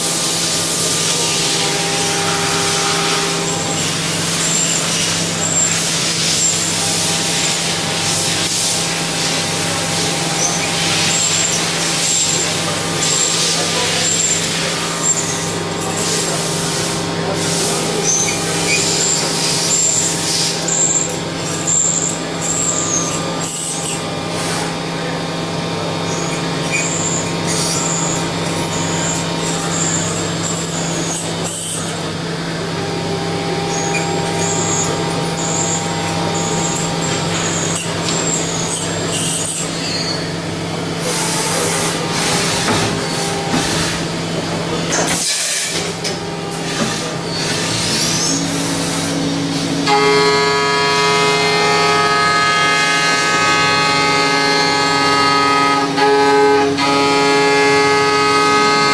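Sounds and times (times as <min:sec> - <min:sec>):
machine humming with tones: 0:00.0 - 0:58.9.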